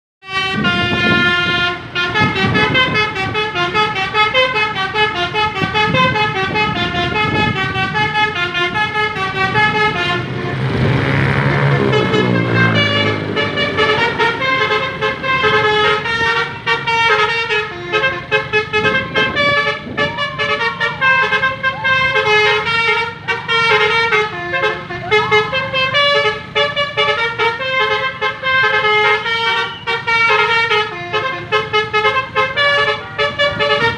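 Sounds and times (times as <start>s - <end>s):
bus horn playing fast melody: 0.2s - 33.9s.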